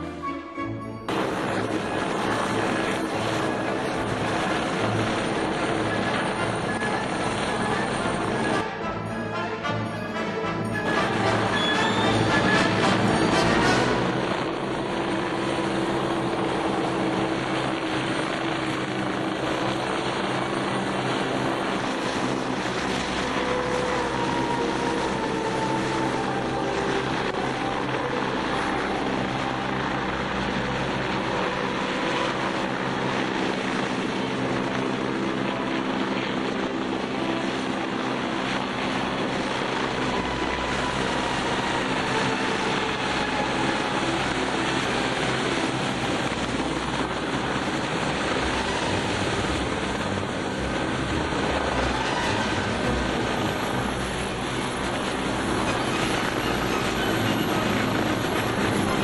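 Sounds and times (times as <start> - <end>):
helicopter turbine and rotor noise: 0.0 - 59.0.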